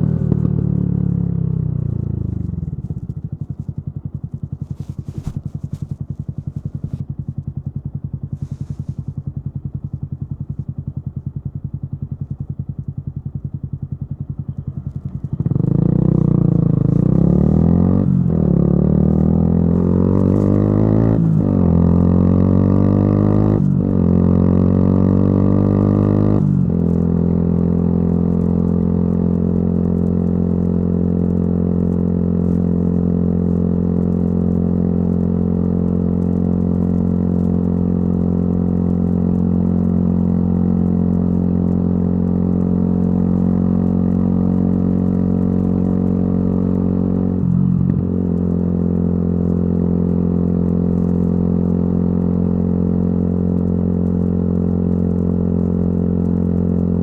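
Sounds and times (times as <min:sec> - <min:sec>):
motorcycle engine idling and accelerating: 0:00.0 - 0:57.0.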